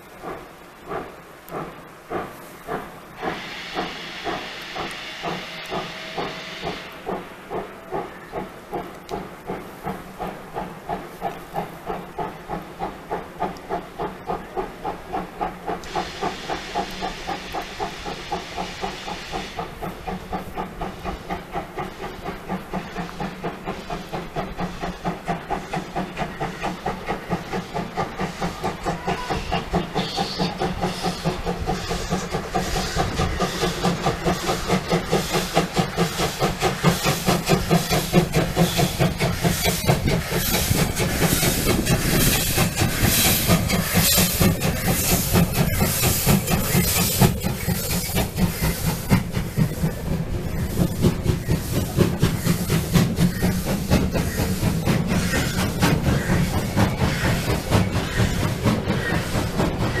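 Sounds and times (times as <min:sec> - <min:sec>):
steam hiss: 0:00.0 - 1:00.0
steam locomotive exhaust chuffs: 0:00.0 - 1:00.0.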